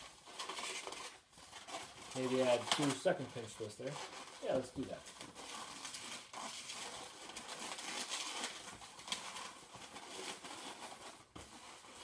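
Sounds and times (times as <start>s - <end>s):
balloon rubbing while twisted: 0.0s - 12.0s.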